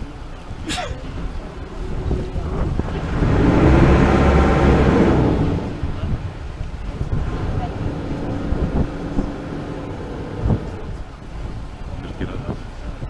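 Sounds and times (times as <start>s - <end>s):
boat engine revving: 0.0s - 13.0s
wind buffeting microphone: 0.0s - 13.0s.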